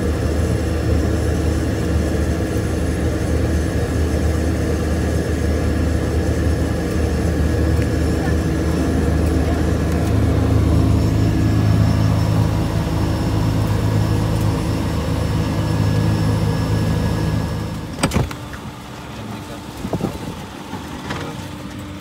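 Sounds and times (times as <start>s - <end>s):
turboprop engine droning: 0.0s - 22.0s.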